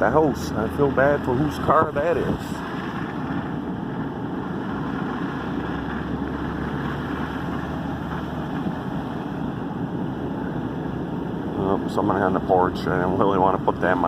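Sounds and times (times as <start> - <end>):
car engine and tyre noise: 0.0 - 14.0.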